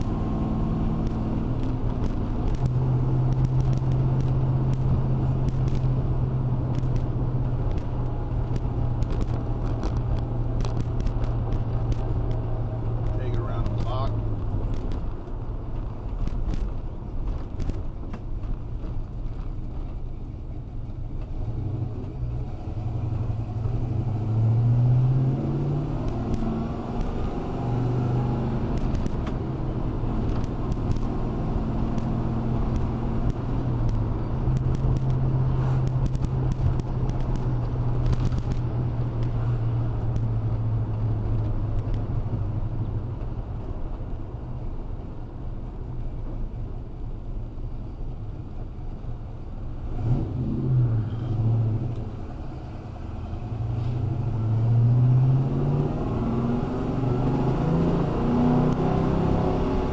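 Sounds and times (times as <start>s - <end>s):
car engine heard from inside: 0.0s - 59.9s.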